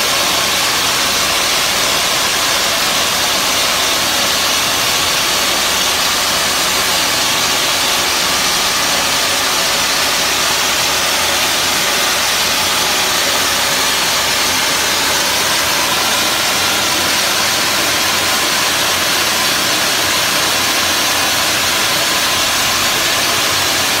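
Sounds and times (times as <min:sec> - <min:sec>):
sandblaster nozzle hissing: 0:00.0 - 0:24.0.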